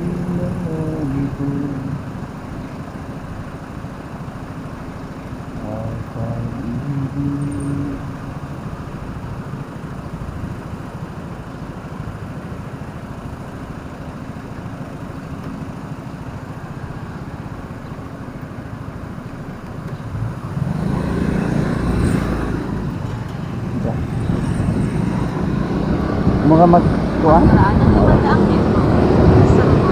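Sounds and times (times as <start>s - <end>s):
vehicle engine and road noise: 0.0s - 29.9s.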